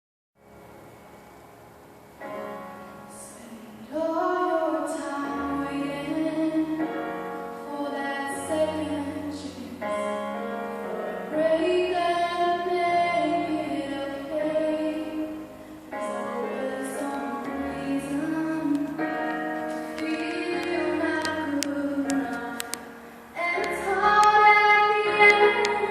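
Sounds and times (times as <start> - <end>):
piano accompaniment: 0.4 - 25.9
woman singing slow song: 3.1 - 10.2, 10.9 - 19.4, 20.0 - 25.9.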